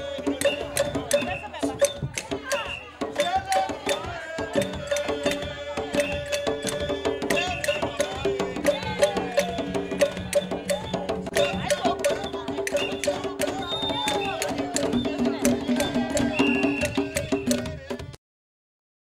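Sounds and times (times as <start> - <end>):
fast drum and wood-block percussion: 0.0 - 18.2
group singing: 0.0 - 18.2.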